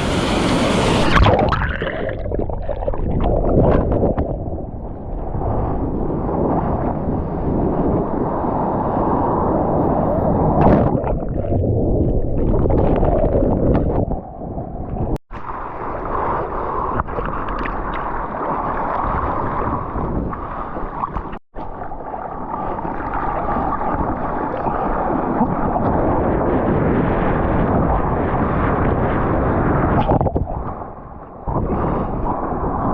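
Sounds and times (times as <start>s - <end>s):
muffled surf churning: 0.0s - 32.9s.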